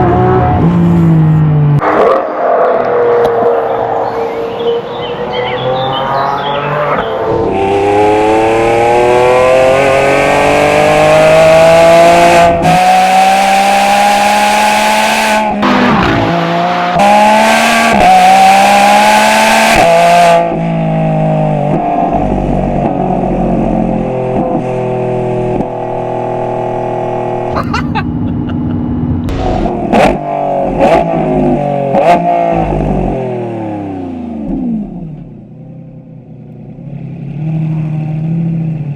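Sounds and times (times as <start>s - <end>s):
car engine accelerating hard: 0.0s - 35.4s.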